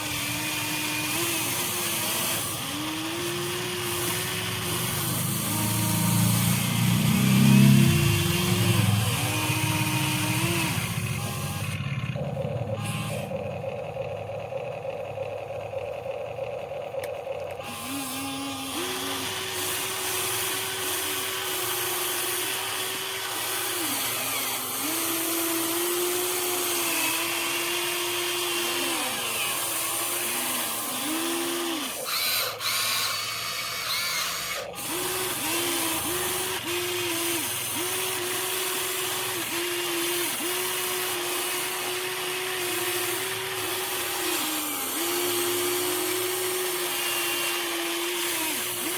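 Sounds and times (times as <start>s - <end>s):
small electric motors whining: 0.0s - 48.9s.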